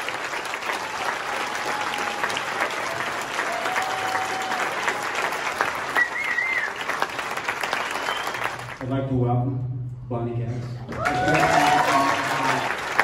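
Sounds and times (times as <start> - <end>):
audience clapping: 0.0 - 9.0, 10.8 - 13.0.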